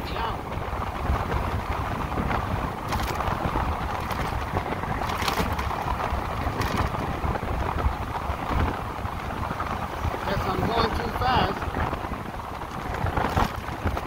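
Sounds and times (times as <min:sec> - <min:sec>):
motorcycle road noise: 0:00.0 - 0:14.0
wind buffeting microphone: 0:00.0 - 0:14.0.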